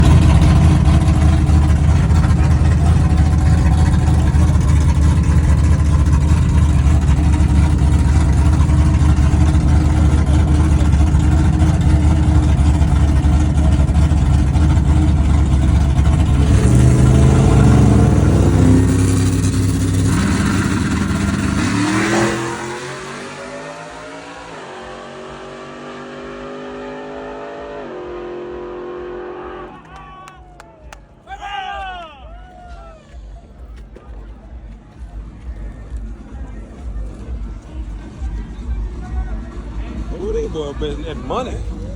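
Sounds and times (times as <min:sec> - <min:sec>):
truck engines revving: 0:00.0 - 0:41.9.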